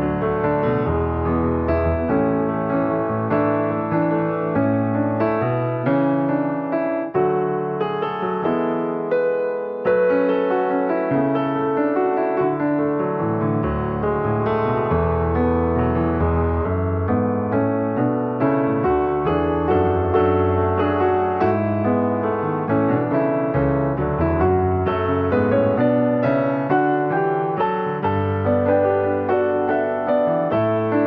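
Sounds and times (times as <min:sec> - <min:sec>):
soft piano music: 0:00.0 - 0:31.0.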